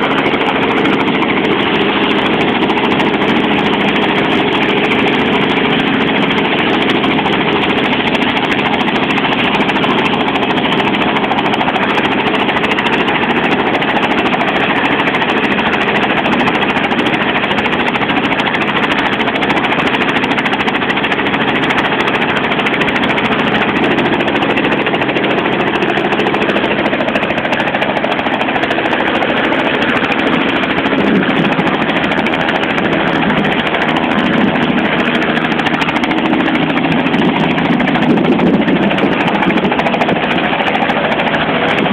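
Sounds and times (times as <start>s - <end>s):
helicopter engine and rotor running: 0.0s - 41.9s.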